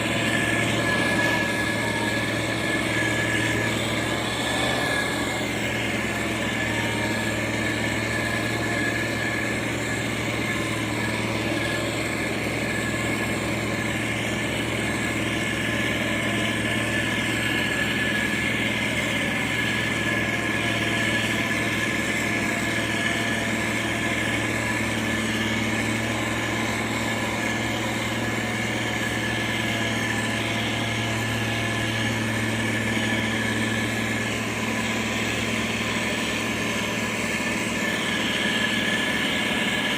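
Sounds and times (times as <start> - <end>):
diesel engine running: 0.0 - 39.9
high whine: 0.0 - 39.9.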